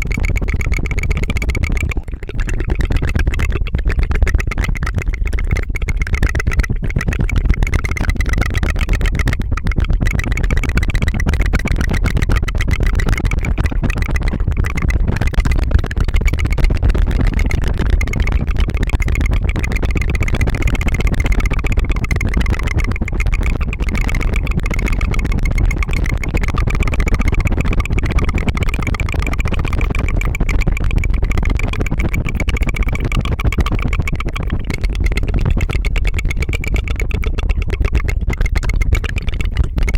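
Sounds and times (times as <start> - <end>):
person rolling tongue trill: 0.0 - 39.9.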